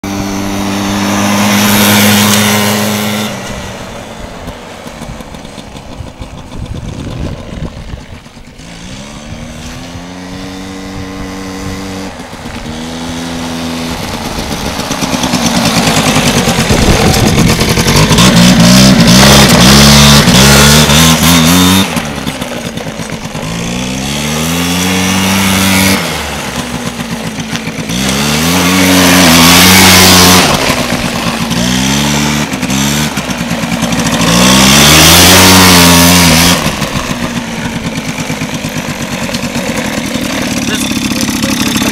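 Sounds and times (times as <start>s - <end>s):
quad bike engine revving: 0.0s - 41.9s.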